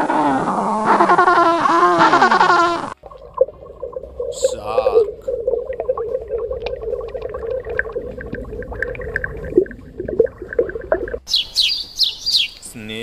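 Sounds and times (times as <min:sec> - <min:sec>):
underwater bubbling: 0:00.0 - 0:11.3
underwater low hum: 0:00.0 - 0:11.3.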